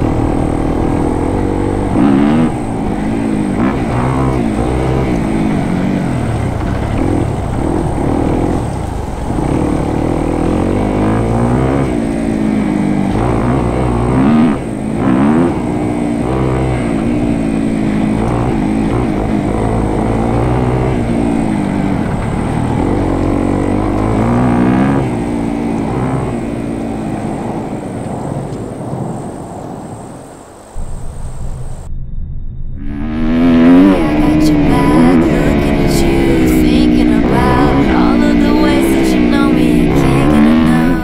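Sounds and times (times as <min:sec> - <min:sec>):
motorcycle engine revving: 0:00.0 - 0:29.4, 0:32.6 - 0:41.0.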